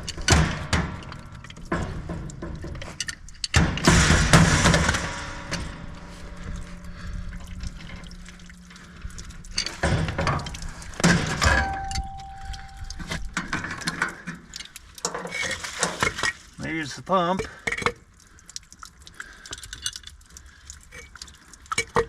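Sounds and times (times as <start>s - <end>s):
metal fittings and tools clattering: 0.0s - 18.0s
water splashing and dripping: 0.0s - 22.0s.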